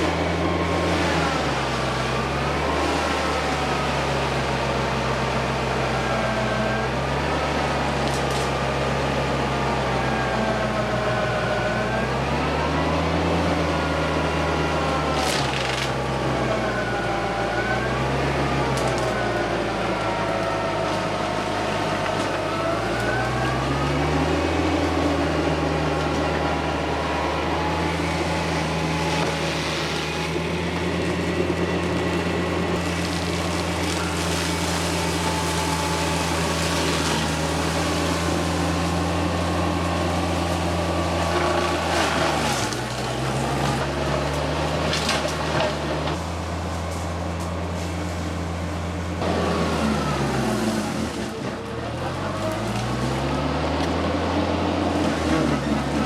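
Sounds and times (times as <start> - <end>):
tractor diesel engine with mulcher: 0.0 - 56.0.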